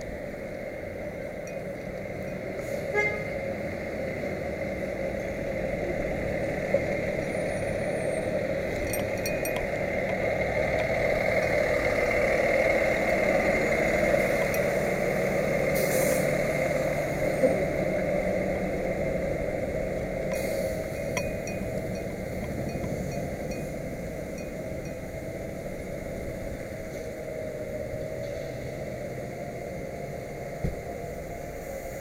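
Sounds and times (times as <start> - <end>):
road noise: 0.0 - 32.0
vehicle engine: 0.0 - 32.0.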